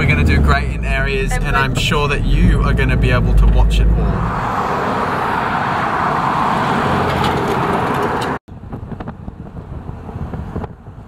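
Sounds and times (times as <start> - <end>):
tyre and engine noise: 0.0 - 11.0
uneven road noise: 0.0 - 11.0.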